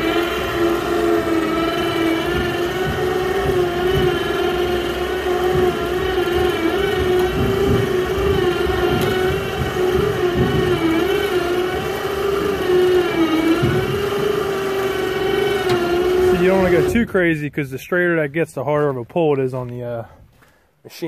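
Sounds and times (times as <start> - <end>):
electric winch motor whining: 0.0 - 17.6
low rumbling: 0.0 - 21.0.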